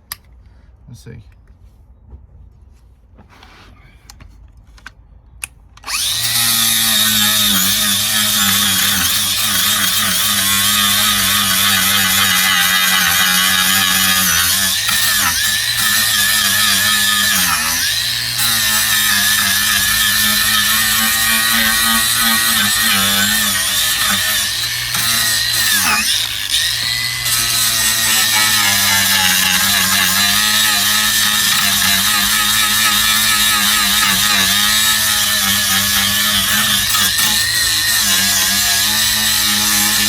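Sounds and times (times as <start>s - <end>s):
angle grinder on steel: 5.8s - 40.0s.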